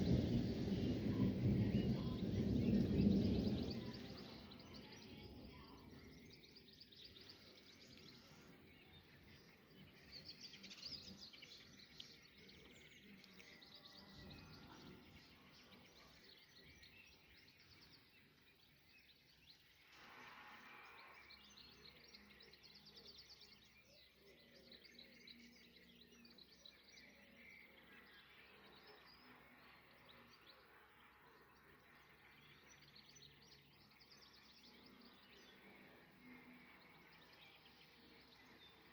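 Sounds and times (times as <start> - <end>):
quiet outdoor background noise: 0.0 - 38.9
small birds chirping and trilling: 0.0 - 38.9.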